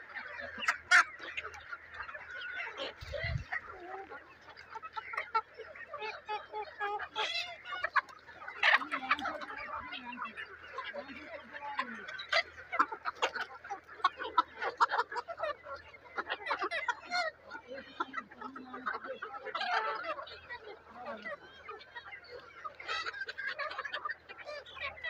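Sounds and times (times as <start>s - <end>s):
chickens clucking and calling: 0.0s - 25.0s.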